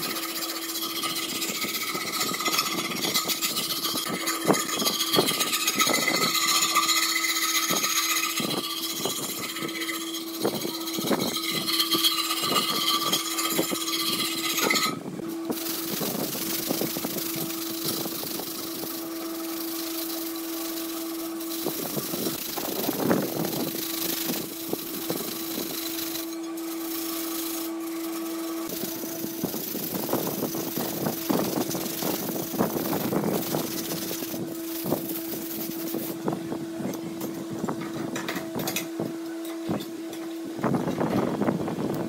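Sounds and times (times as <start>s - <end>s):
sandpaper rasping on steel: 0.0s - 36.2s
steady machine hum: 0.0s - 42.0s.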